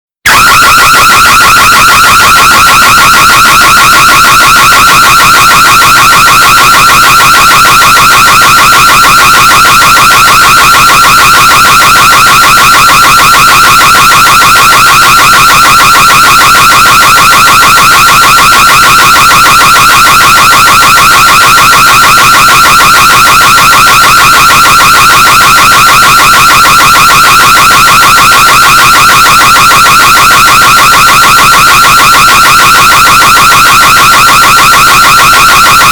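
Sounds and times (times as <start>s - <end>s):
burglar alarm pulsing tone: 0.2s - 35.9s.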